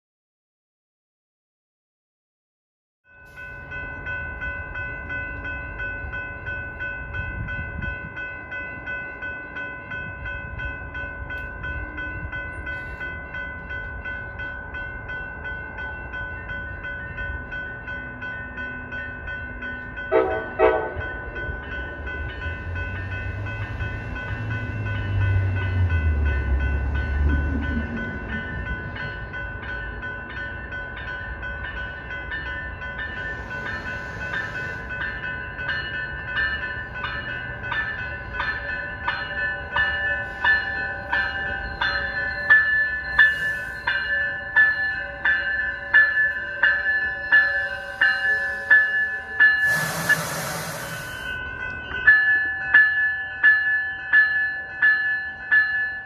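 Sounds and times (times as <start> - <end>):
railway crossing bell ringing: 3.0 - 56.0
train rumbling past: 3.3 - 55.7.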